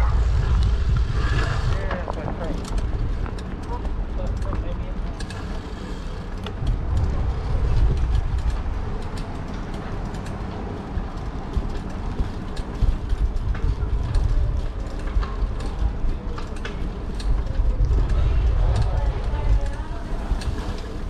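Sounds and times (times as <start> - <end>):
wind on microphone: 0.0 - 4.1, 6.3 - 9.4, 10.8 - 21.0
tyres rumbling on road: 0.0 - 21.0
bicycle clicks and rattles: 0.1 - 21.0.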